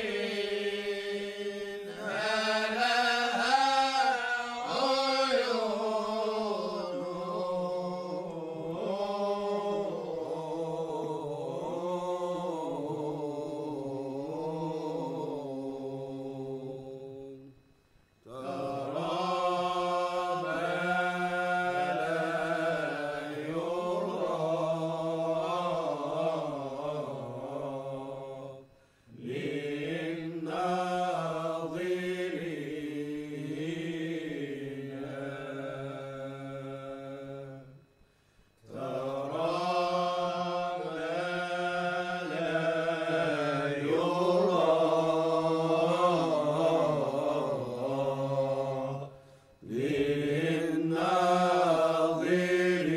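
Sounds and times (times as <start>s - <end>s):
voices chanting: 0.0s - 17.5s, 18.2s - 37.8s, 38.6s - 52.9s.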